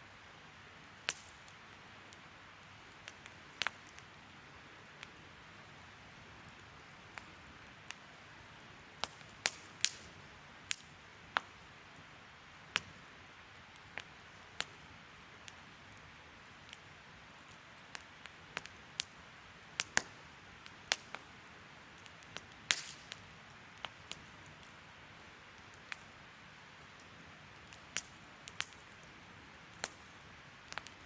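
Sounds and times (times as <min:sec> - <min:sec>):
wood fire crackling: 0:00.1 - 0:31.0.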